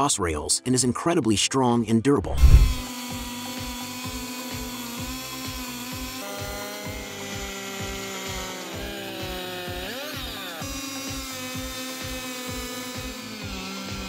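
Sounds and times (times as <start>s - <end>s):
chainsaw cutting timber: 2.4s - 14.0s.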